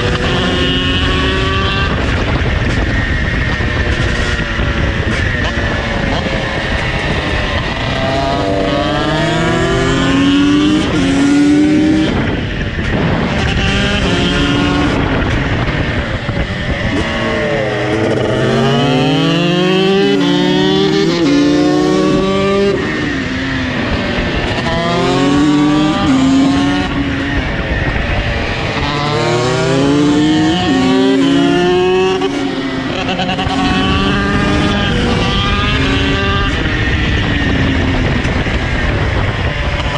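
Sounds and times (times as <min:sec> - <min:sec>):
two-stroke engine accelerating: 0:00.0 - 0:39.9.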